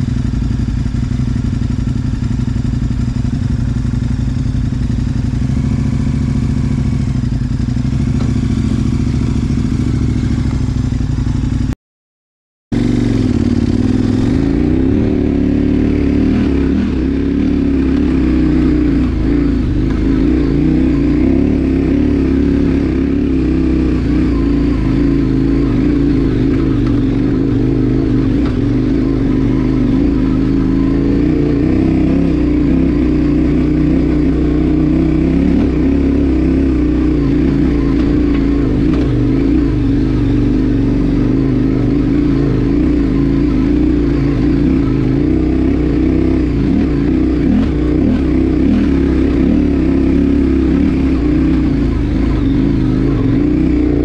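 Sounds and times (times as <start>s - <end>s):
motorcycle engine at low revs: 0.0s - 11.8s, 12.7s - 54.0s.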